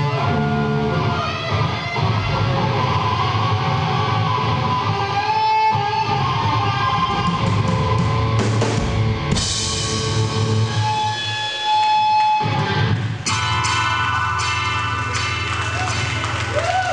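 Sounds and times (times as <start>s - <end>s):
distorted electric guitar: 0.0s - 16.9s.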